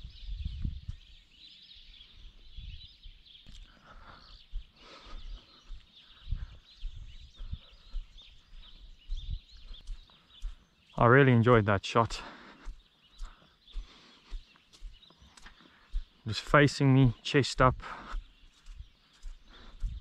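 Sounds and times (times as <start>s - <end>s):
birds chirping: 0.0s - 20.0s
footsteps on grass: 3.4s - 20.0s.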